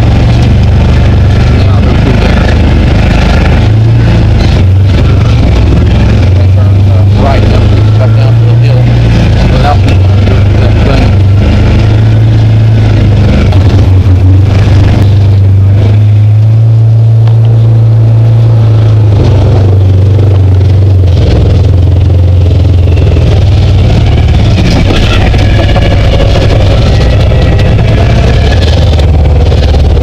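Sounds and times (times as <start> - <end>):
utility vehicle engine droning: 0.0 - 30.0.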